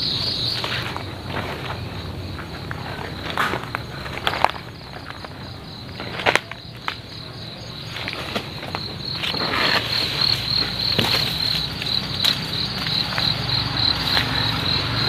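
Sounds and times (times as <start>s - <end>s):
crickets chirping: 0.0s - 15.0s
footsteps crunching dry leaves: 0.1s - 15.0s.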